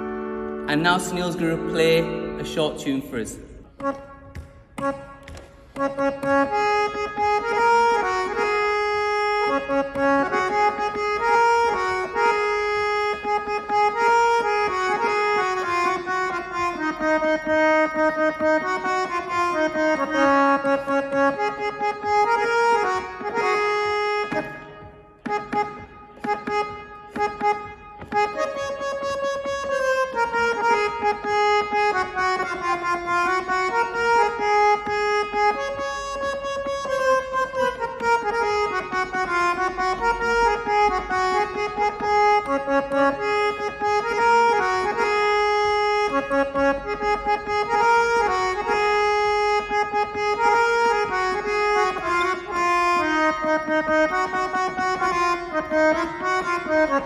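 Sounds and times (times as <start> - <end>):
harmonium melody: 0.0 - 57.0.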